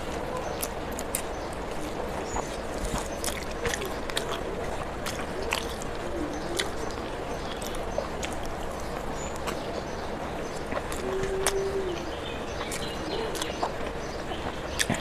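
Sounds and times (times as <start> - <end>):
wet chewing and lip-smacking: 0.0 - 15.0.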